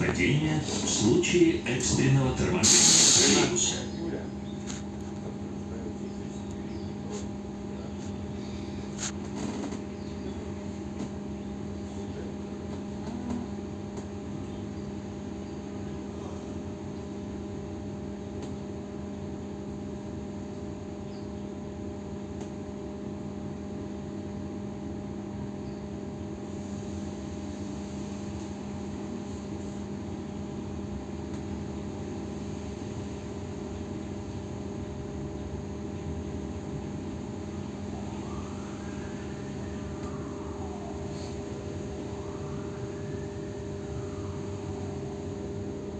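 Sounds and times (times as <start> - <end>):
trolleybus electrical hum: 0.0 - 45.9.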